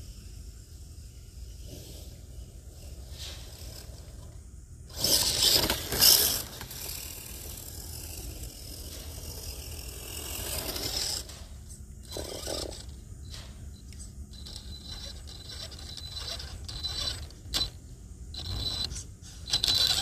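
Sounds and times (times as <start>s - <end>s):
rc truck drivetrain whirring: 0.0s - 20.0s.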